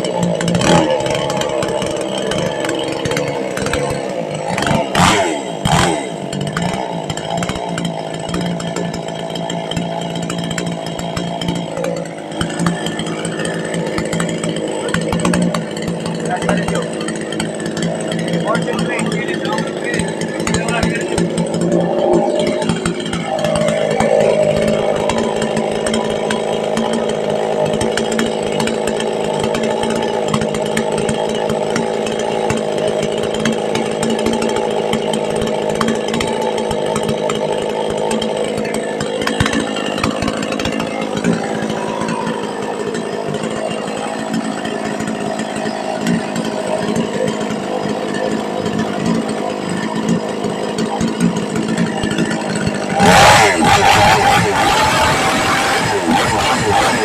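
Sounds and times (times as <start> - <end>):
chainsaw engine running: 0.0 - 57.0.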